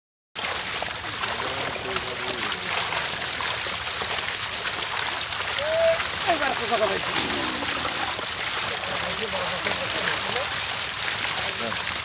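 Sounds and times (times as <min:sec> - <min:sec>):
fish splashing in water: 0:00.4 - 0:12.0.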